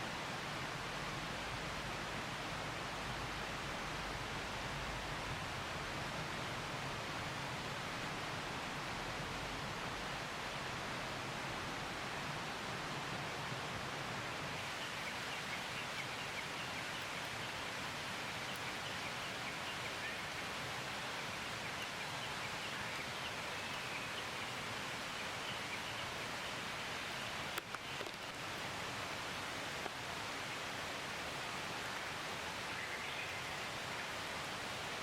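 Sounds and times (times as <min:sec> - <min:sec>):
rushing forest ambience: 0:00.0 - 0:35.0.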